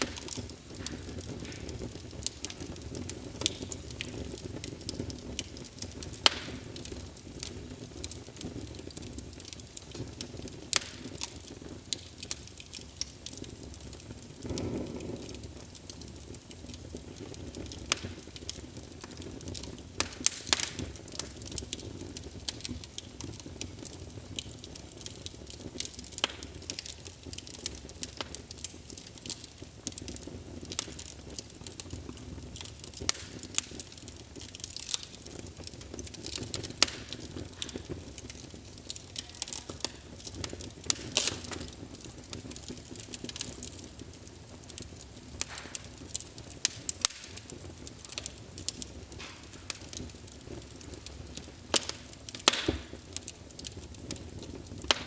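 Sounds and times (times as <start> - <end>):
fire crackling and popping: 0.0 - 55.0
rush of flame: 0.0 - 55.0.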